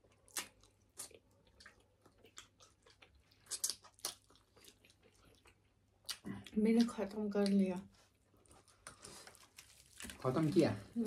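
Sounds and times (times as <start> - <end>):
chewing and lip smacks: 0.0 - 10.2.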